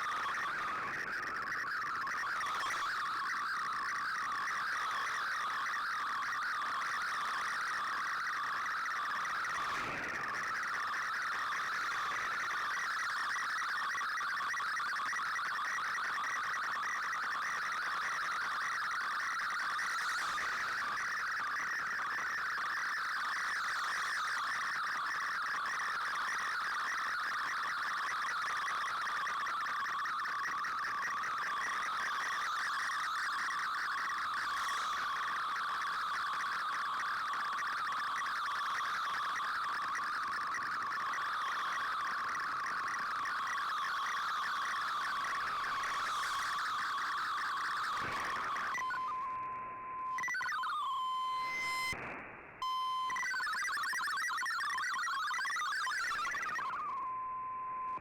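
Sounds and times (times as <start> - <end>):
digital data signal warble: 0.0 - 52.0, 52.6 - 58.0.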